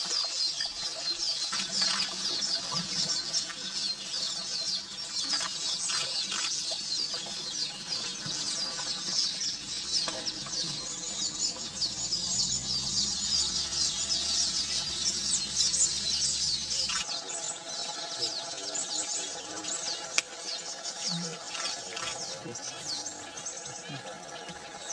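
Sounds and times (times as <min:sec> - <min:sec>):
small birds chattering: 0:00.0 - 0:24.9.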